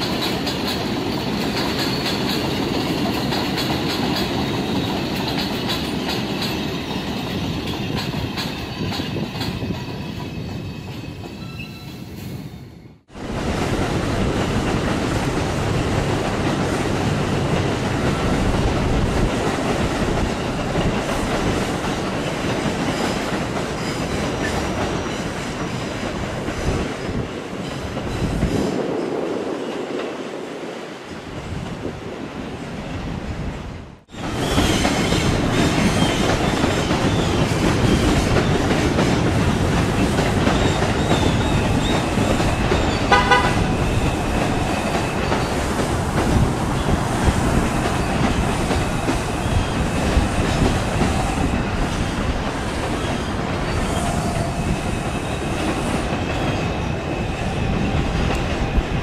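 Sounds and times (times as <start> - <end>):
subway train rumble and clatter: 0.0 - 59.0.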